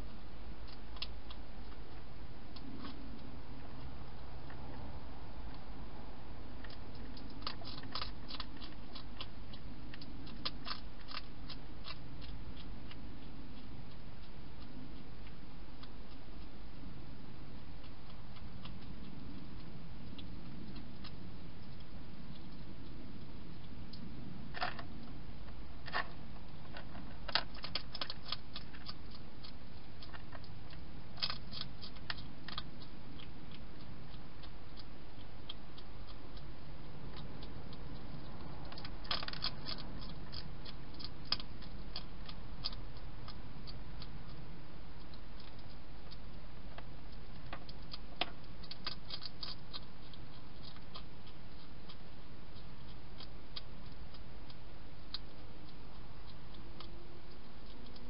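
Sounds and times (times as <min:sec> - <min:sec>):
hedgehog crunching dry food: 0:00.0 - 0:58.0
steady low hiss: 0:00.0 - 0:58.0.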